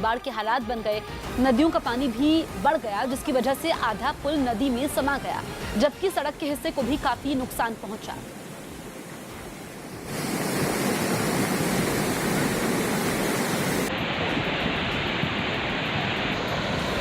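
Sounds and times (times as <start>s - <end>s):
floodwater rushing in river: 1.1s - 17.0s.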